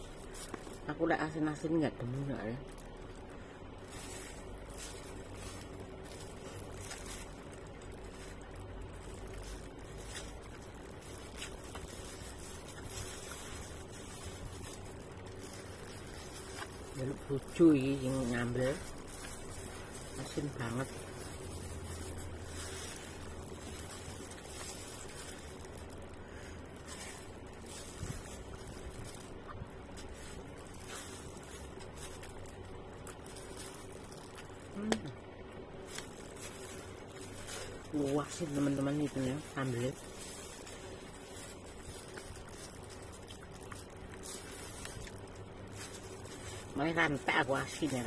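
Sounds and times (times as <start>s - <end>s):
background hiss: 0.0s - 48.0s
plastic glove crackling: 0.0s - 48.0s
steady low hum: 0.0s - 48.0s.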